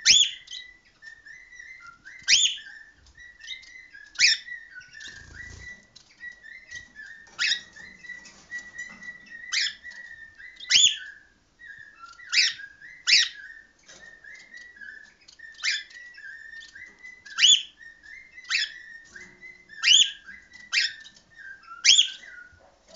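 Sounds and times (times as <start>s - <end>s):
soft warbling whistles: 0.0s - 22.7s
cockatiels sharp calls: 0.0s - 22.9s.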